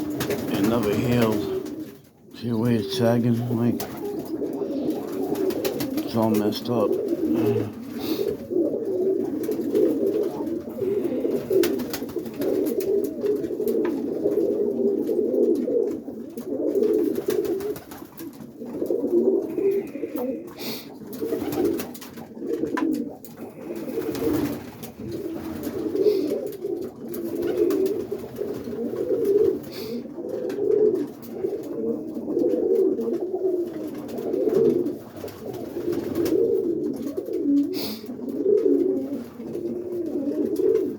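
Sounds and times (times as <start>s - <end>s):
pigeons cooing: 0.0s - 40.9s.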